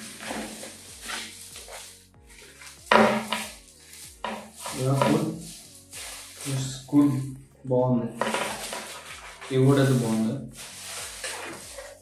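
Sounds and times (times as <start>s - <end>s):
plastic bag crinkling: 0.0s - 6.6s, 8.2s - 12.0s.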